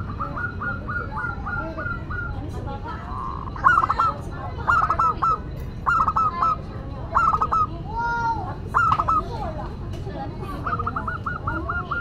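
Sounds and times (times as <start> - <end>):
dove cooing: 0.0 - 7.8, 8.7 - 9.6, 10.4 - 12.0.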